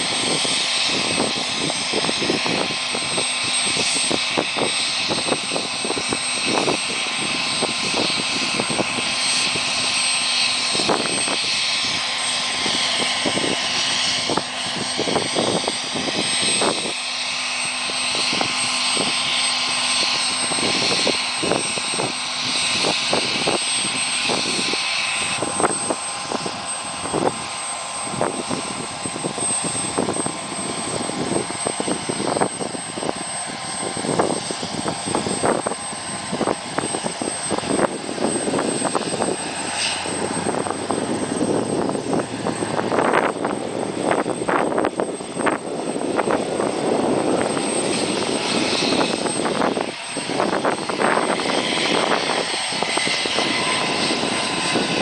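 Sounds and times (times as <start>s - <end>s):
helicopter turbine engines running: 0.0s - 55.0s.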